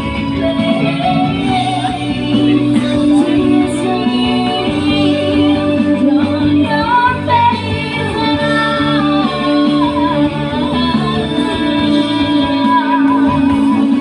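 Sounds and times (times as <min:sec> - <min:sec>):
guitar chords: 0:00.0 - 0:14.0
woman singing: 0:00.0 - 0:14.0.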